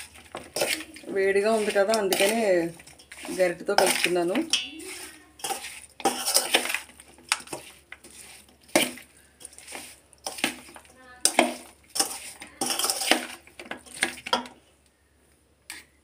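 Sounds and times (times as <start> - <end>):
metal spatula scraping metal bowl: 0.0 - 14.5.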